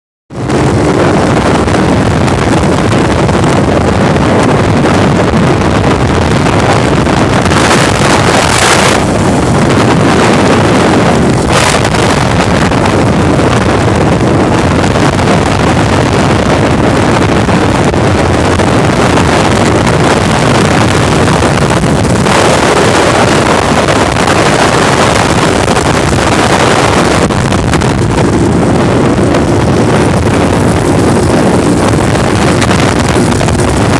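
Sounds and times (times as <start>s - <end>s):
strong wind on microphone: 0.3s - 33.9s.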